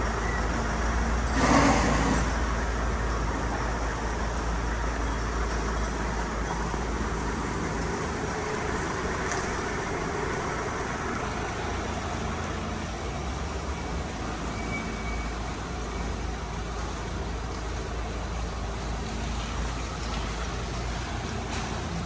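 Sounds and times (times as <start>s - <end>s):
vehicle and road noise: 0.0s - 22.0s.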